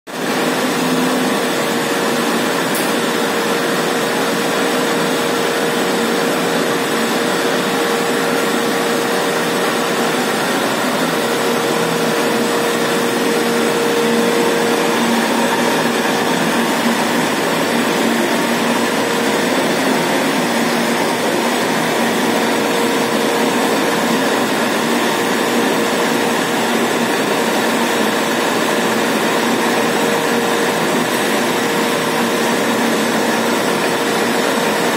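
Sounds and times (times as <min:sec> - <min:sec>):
printing machine whirring: 0:00.2 - 0:34.9.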